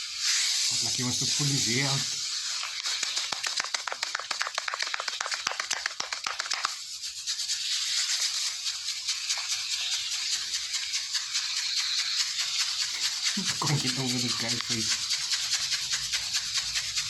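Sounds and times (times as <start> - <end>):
steady hiss: 0.0 - 16.4.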